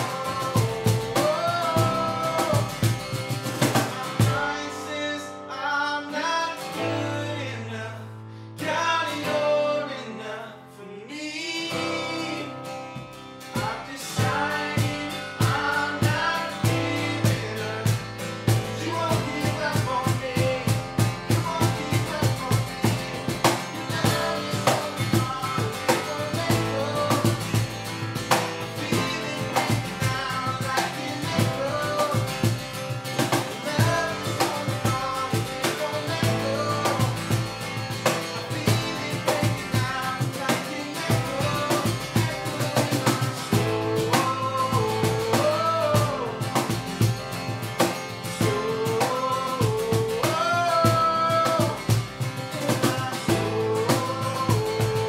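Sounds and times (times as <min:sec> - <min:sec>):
drum kit: 0:00.0 - 0:04.6, 0:13.0 - 0:55.0
person singing: 0:00.0 - 0:12.7, 0:13.5 - 0:55.0
guitar: 0:00.0 - 0:55.0.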